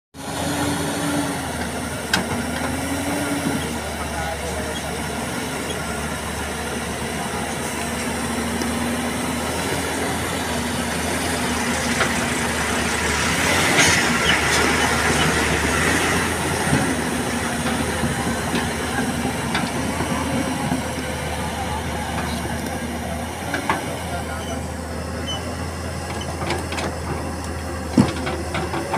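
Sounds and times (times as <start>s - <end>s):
excavator diesel engine: 0.2s - 28.9s.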